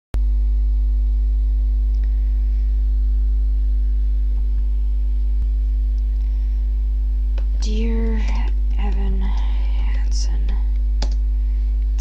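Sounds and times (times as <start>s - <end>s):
low electrical hum: 0.2s - 12.0s.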